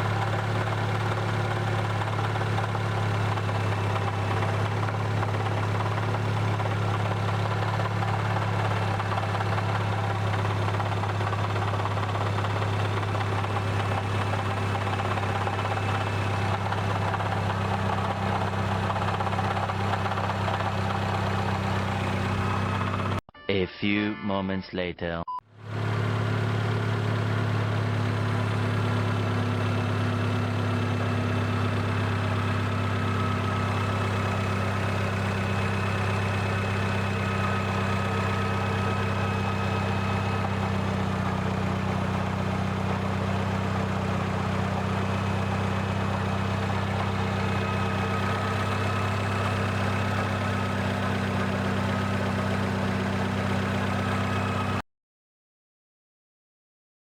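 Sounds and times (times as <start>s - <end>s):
car engine drone: 0.0s - 23.2s, 25.5s - 54.8s.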